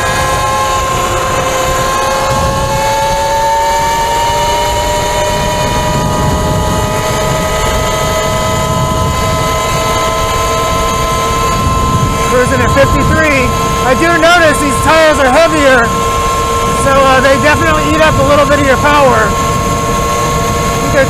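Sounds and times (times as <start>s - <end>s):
electric motor whining: 0.0s - 21.0s
wind on microphone: 0.0s - 21.0s.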